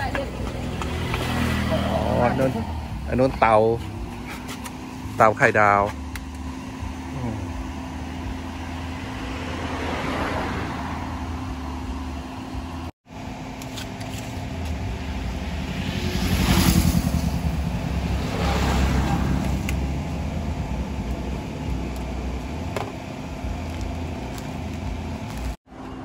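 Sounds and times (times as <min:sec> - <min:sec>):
vehicles passing: 0:00.0 - 0:26.0
low hum: 0:00.2 - 0:26.0.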